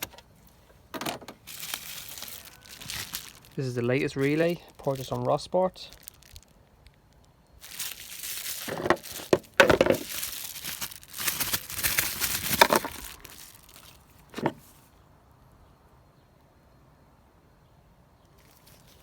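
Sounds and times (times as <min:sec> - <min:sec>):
plastic packaging crinkling: 0:00.0 - 0:14.8, 0:18.4 - 0:19.0.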